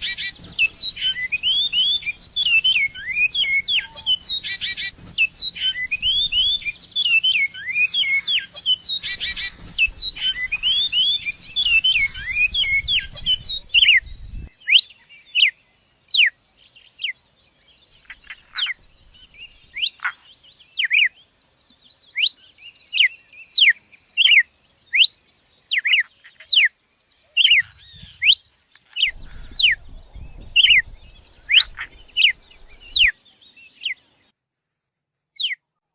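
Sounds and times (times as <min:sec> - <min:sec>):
small bird chirping: 0:00.0 - 0:35.9.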